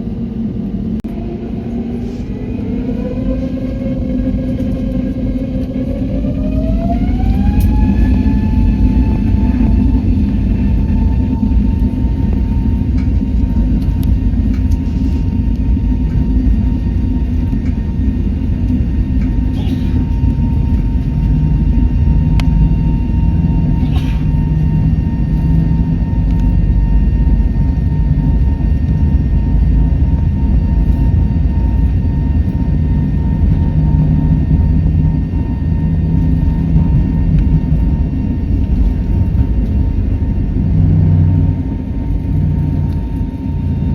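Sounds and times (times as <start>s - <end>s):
jet engine rumble: 0.0s - 43.9s.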